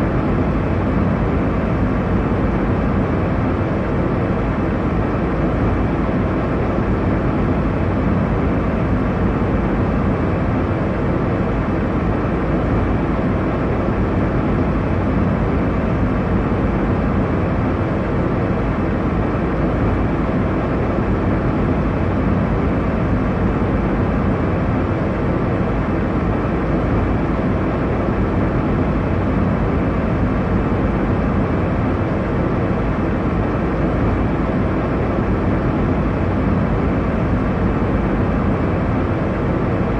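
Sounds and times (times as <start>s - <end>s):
airliner cabin rumble in flight: 0.0s - 39.9s.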